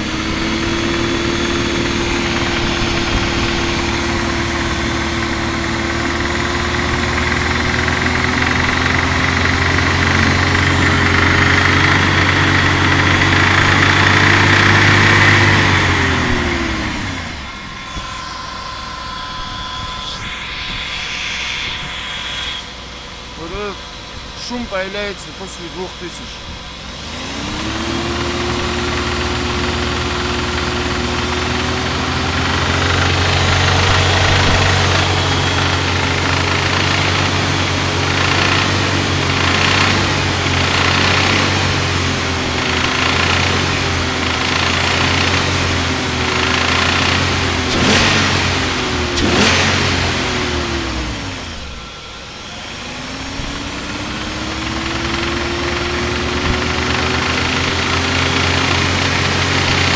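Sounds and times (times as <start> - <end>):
engine knocking: 0.0 - 18.8, 24.4 - 59.9
car engine revving: 0.0 - 59.9.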